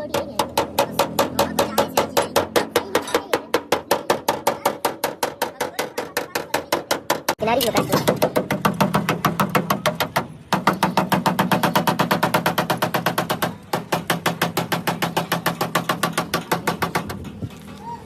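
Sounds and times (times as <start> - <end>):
rapid even knocking: 0.0 - 17.4.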